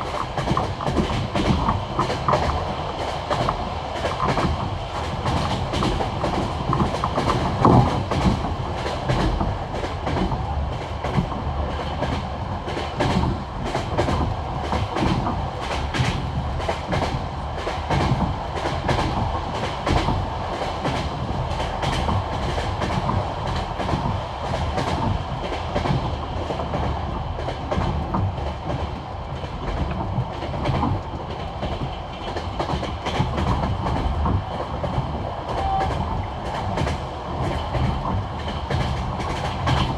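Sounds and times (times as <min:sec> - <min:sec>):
train running rumble: 0:00.0 - 0:39.9
train wheels clacking over rail joints: 0:00.0 - 0:39.9.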